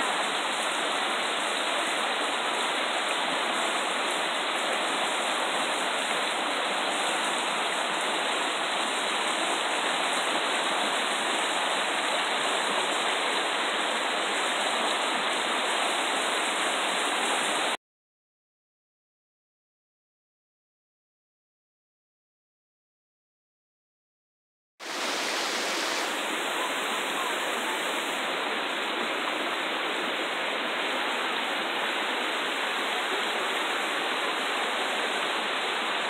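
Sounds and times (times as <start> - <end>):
stream rushing over stones: 0.0 - 17.8, 24.8 - 36.0.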